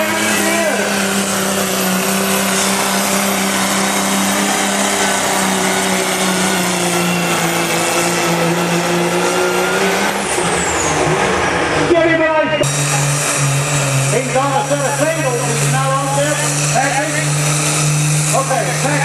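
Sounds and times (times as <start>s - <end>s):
diesel truck engine running hard: 0.0s - 19.0s.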